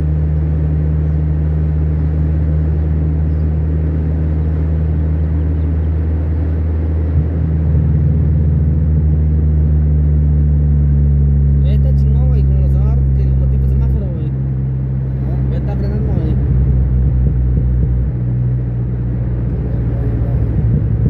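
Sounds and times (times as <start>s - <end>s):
car engine and tyres droning: 0.0s - 21.0s.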